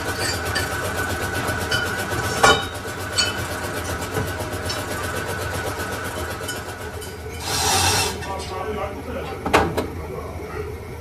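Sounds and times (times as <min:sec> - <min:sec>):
lathe humming and whining: 0:00.0 - 0:11.0.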